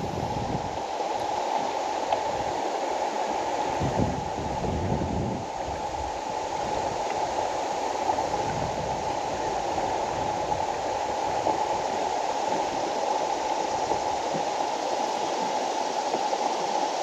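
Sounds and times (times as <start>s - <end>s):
river water over rocks: 0.0s - 17.0s.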